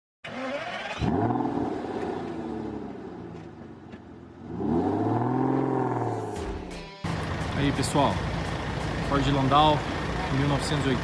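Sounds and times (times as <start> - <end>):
car engine revving: 0.6 - 10.2.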